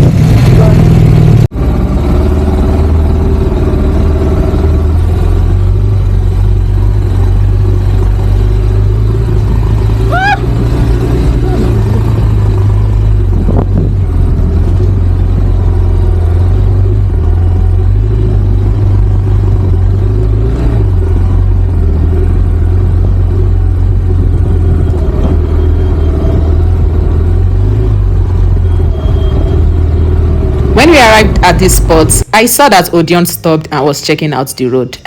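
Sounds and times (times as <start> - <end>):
motorcycle engine low rumble: 0.0 - 35.0.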